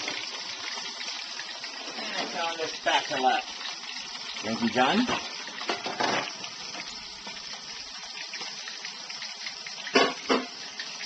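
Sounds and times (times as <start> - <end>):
fish sizzling in oil: 0.0 - 11.0
oil popping: 0.0 - 11.0.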